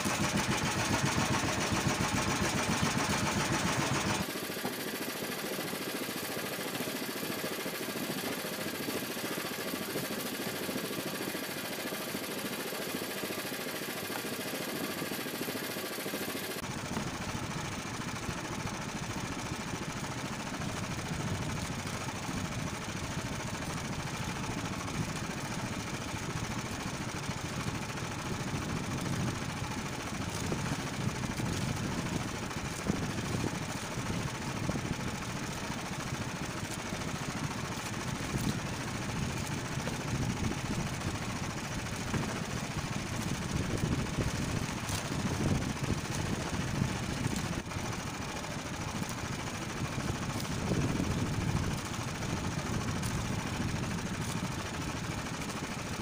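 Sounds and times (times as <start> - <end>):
small boat engine idling: 0.0 - 56.0.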